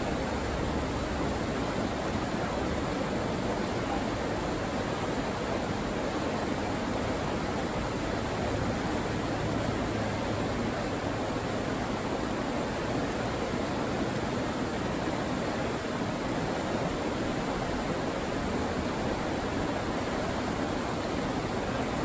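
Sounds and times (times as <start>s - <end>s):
river rapids rushing over rocks: 0.0s - 22.0s.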